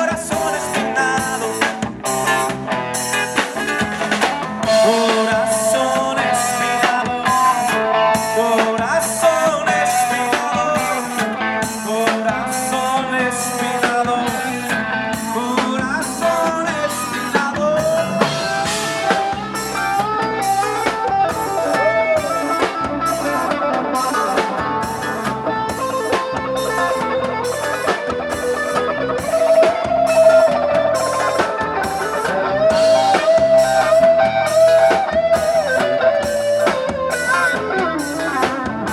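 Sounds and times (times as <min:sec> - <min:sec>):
drum kit steady beat: 0:00.0 - 0:38.9
guitar playing bending melody: 0:00.0 - 0:38.9.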